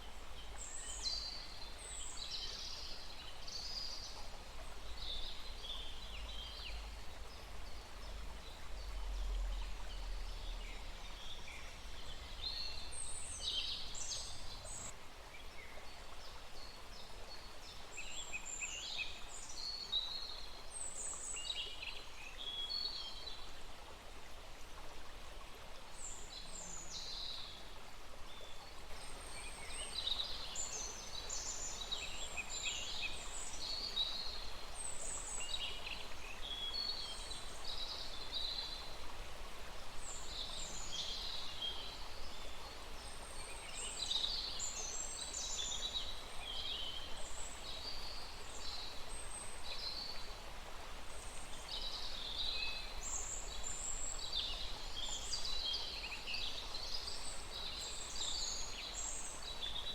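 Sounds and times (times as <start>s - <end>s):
forest stream running: 0.0s - 59.9s.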